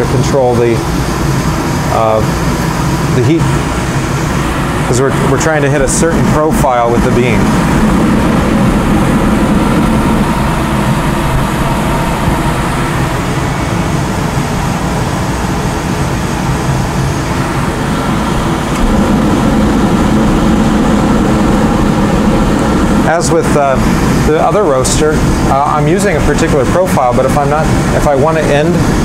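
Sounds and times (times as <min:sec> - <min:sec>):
coffee roaster blower rushing: 0:00.0 - 0:29.0.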